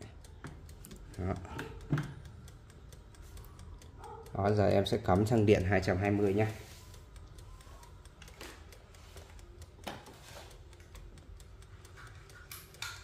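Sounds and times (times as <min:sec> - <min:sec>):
wind-up timer ticking: 0:00.0 - 0:13.0.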